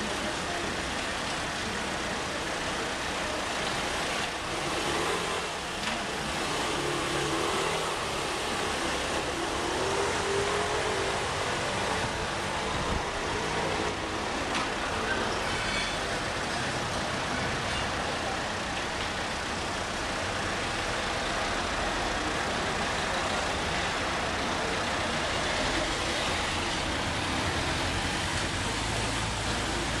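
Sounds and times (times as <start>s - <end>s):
street traffic noise: 0.0s - 30.0s.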